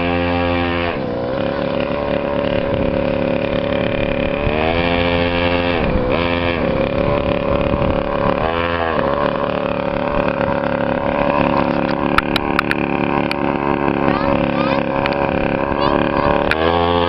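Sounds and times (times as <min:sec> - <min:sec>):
motorcycle engine idling: 0:00.9 - 0:05.3, 0:06.8 - 0:17.0.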